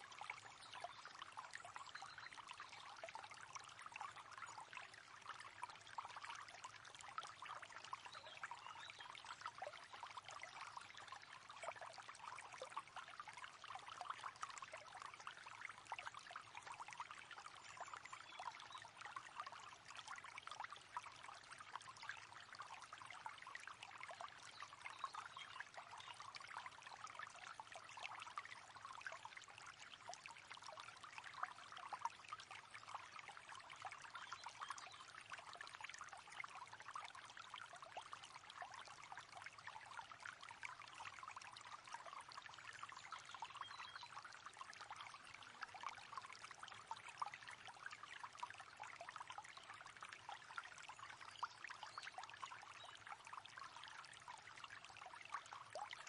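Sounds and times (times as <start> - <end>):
faint river water flowing: 0.0 - 56.0.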